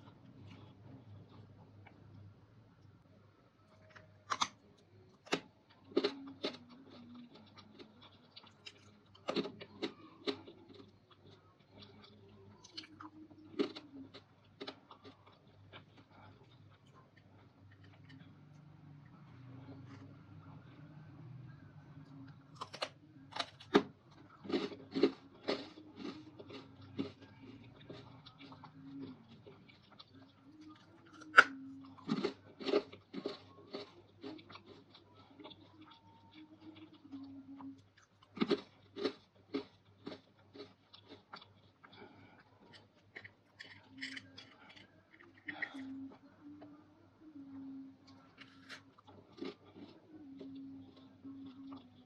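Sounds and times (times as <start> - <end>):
crunchy food being chewed: 3.7 - 20.2, 21.5 - 46.7, 48.0 - 52.0.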